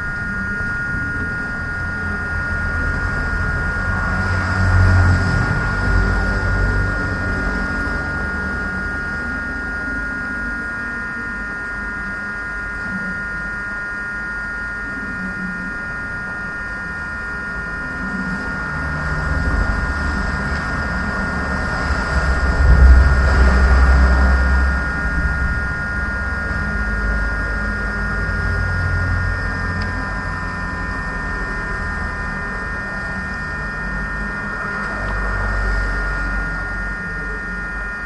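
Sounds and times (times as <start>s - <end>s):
machine hum with high whine: 0.0s - 38.0s.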